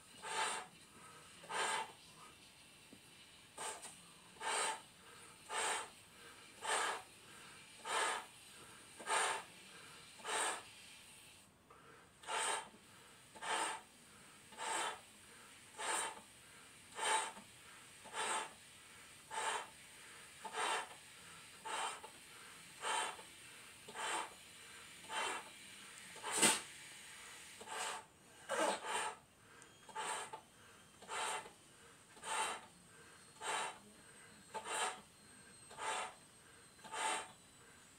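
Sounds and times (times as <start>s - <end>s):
breaths blowing up balloon: 0.0s - 2.2s, 3.5s - 10.8s, 12.1s - 37.9s.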